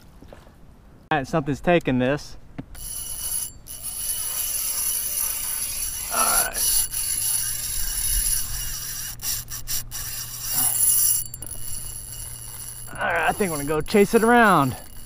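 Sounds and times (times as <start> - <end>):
fishing reel drag buzzing: 2.7 - 15.0.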